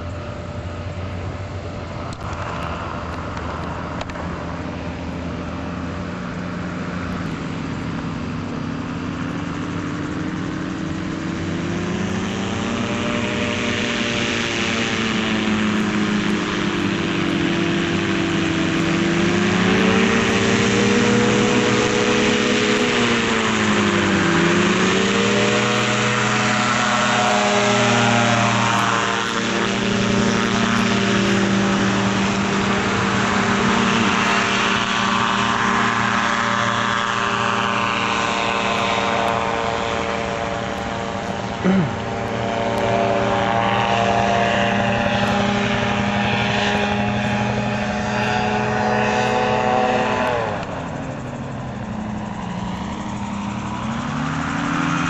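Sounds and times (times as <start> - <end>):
gyrocopter engine and propeller: 0.0 - 55.0.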